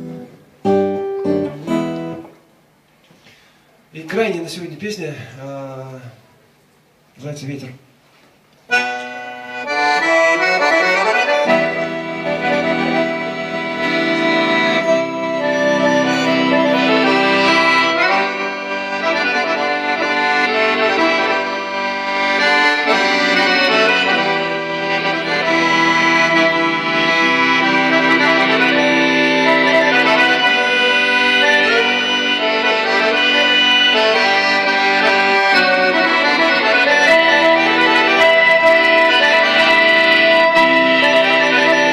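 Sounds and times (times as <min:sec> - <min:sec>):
live band playing held chords: 0:00.0 - 0:02.4, 0:08.7 - 0:41.9.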